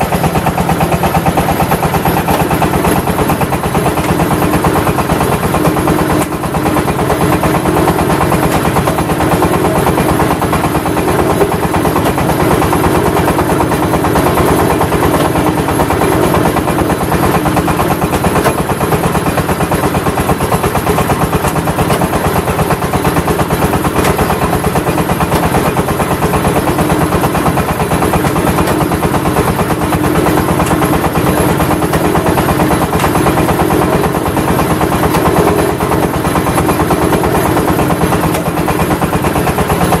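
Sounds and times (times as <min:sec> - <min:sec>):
brick press machine droning: 0:00.0 - 0:40.0.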